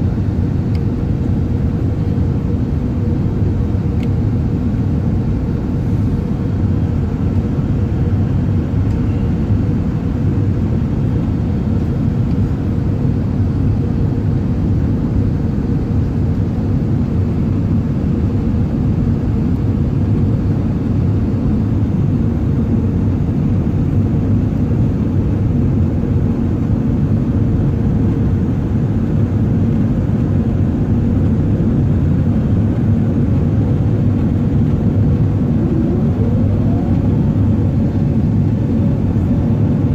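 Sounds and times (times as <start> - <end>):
airplane cabin rumble: 0.0 - 39.9
faint steady hum: 0.0 - 39.9.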